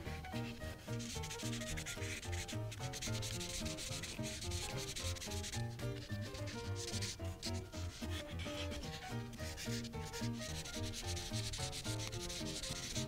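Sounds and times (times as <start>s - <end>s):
marker scribbling on paper: 0.3s - 13.0s.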